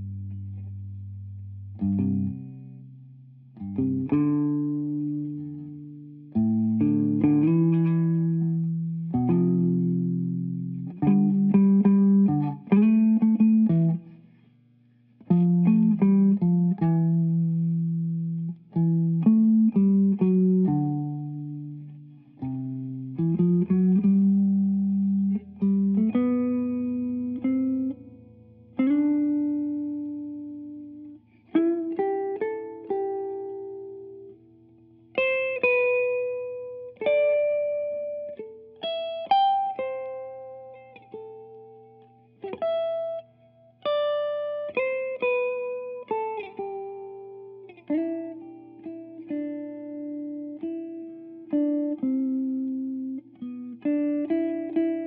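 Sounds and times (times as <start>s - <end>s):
guitar played slowly: 0.0s - 55.0s.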